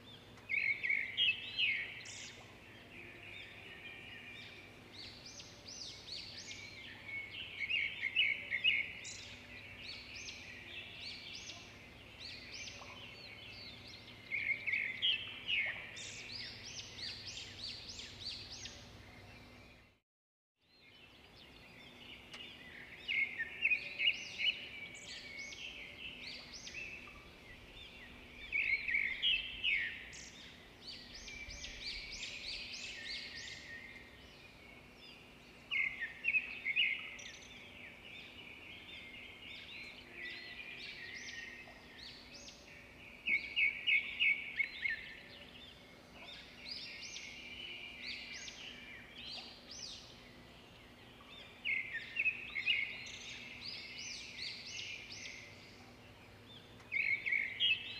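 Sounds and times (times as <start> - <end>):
songbirds chirping and trilling: 0.0 - 20.0, 20.6 - 57.9.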